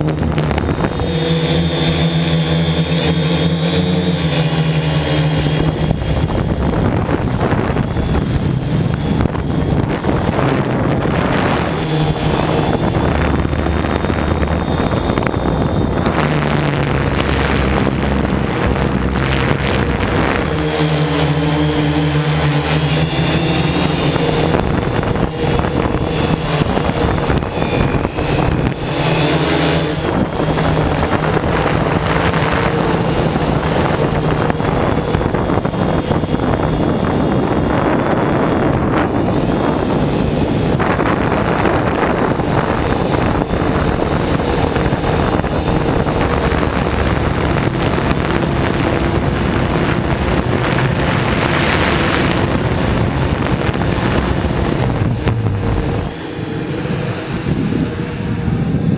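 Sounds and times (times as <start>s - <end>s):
drone motors buzzing: 0.0s - 58.9s
wind noise on microphone: 0.0s - 58.9s.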